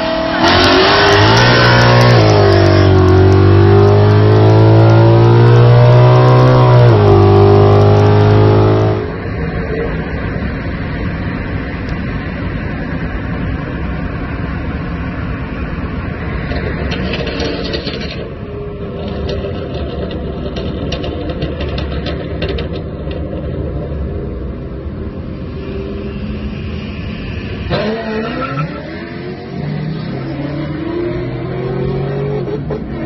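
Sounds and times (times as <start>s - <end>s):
car engine at full throttle: 0.0s - 33.0s
engine and road noise hum: 0.0s - 33.0s.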